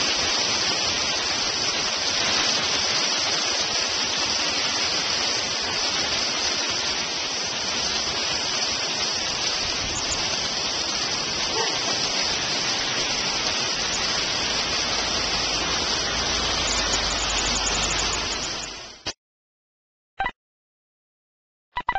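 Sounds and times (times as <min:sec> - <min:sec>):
hail pelting down: 0:00.0 - 0:19.0.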